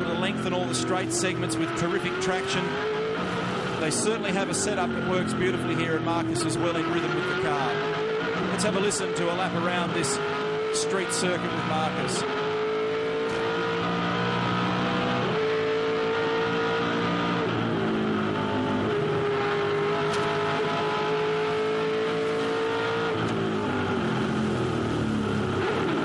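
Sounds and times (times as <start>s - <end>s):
race car engine at full throttle: 0.0s - 26.0s
wind and road noise: 0.0s - 26.0s.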